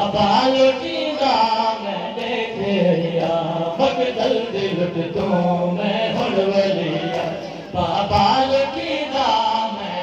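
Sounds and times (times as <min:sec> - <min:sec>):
men chanting a lament: 0:00.0 - 0:10.0.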